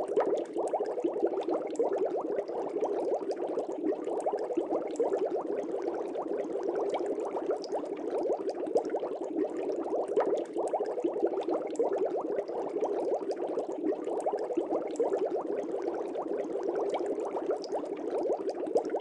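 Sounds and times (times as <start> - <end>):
air bubbles in water: 0.0 - 19.0.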